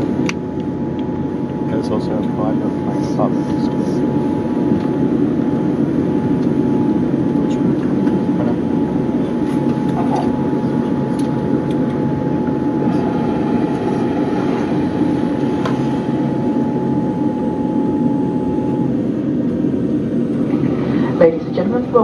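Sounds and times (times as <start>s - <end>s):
aircraft cabin engine rumble: 0.0s - 22.0s
thin steady hum: 0.0s - 22.0s.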